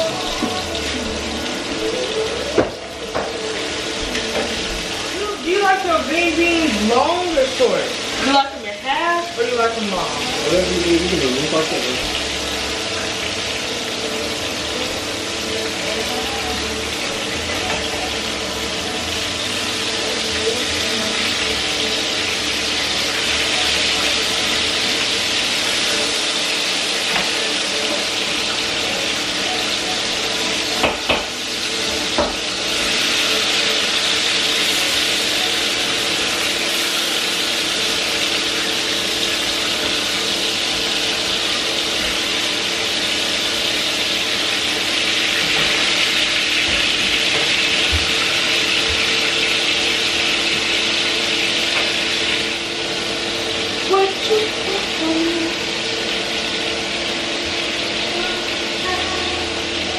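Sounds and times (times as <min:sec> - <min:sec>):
onions sizzling in a frying pan: 0:00.0 - 0:59.9.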